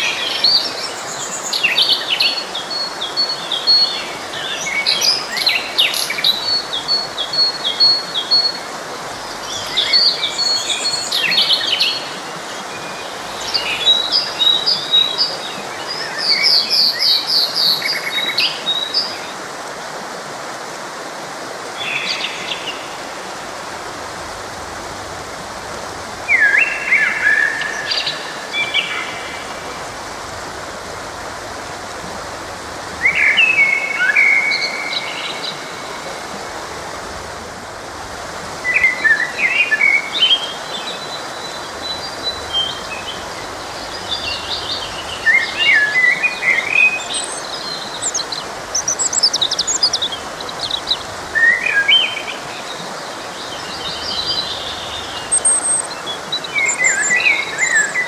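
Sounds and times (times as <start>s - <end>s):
songbirds chirping: 0.0s - 19.4s, 21.6s - 58.0s
forest stream rushing: 0.0s - 58.0s.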